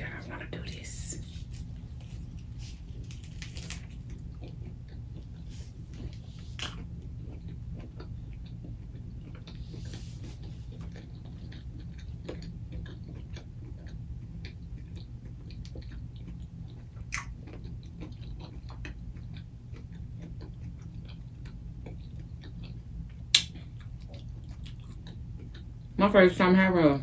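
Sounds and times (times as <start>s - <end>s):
wet chewing and crunches: 1.2s - 26.0s.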